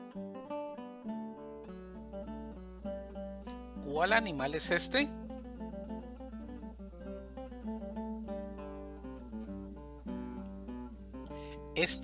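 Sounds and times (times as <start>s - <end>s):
acoustic guitar picking notes: 0.0s - 12.0s.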